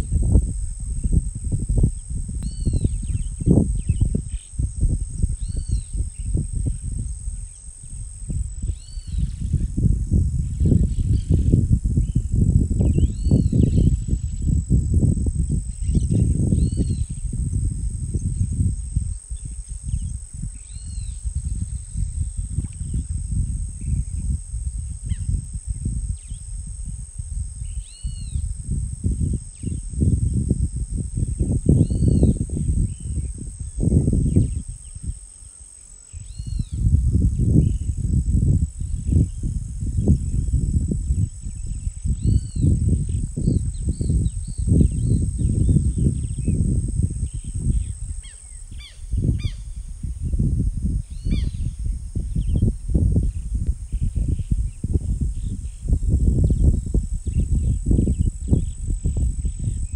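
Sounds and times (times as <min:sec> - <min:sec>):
insects droning: 0:00.0 - 0:59.9
wind rumble on microphone: 0:00.0 - 0:59.9.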